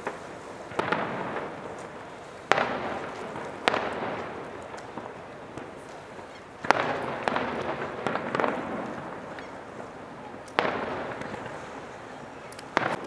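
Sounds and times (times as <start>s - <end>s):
firework bangs with echo: 0.0s - 12.0s, 12.7s - 13.0s.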